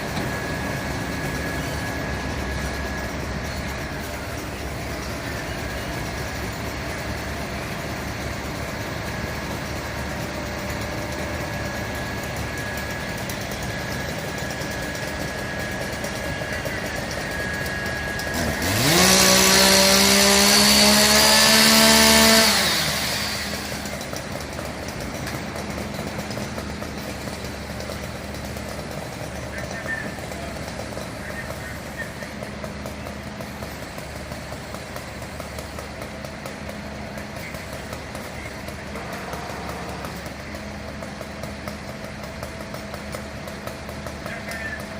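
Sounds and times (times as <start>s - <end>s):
fire truck diesel engine revving: 0.0s - 44.9s.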